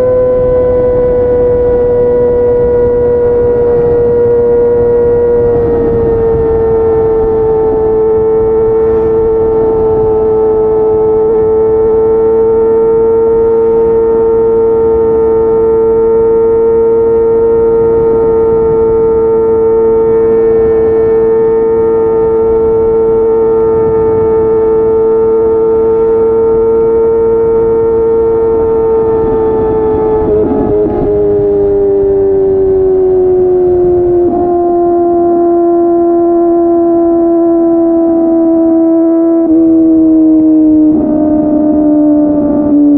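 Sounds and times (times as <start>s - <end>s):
motorcycle engine revving high: 0.0s - 42.9s.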